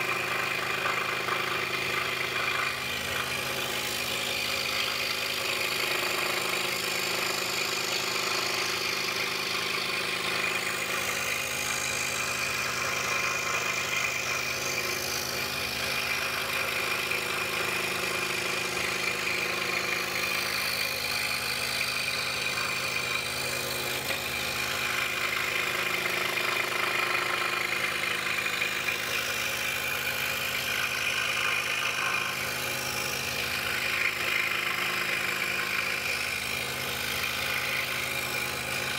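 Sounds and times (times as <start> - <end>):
scroll saw cutting wood: 0.0 - 38.9.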